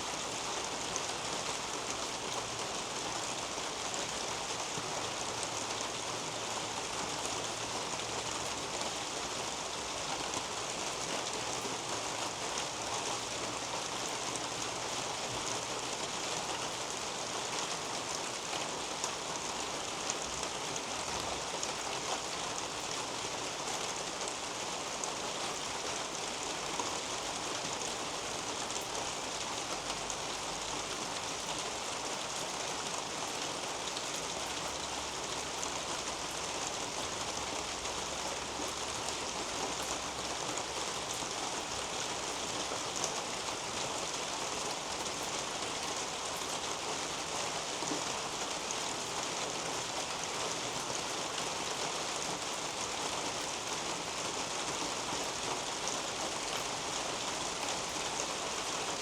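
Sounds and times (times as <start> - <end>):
rain on leaves and roof: 0.0 - 59.0.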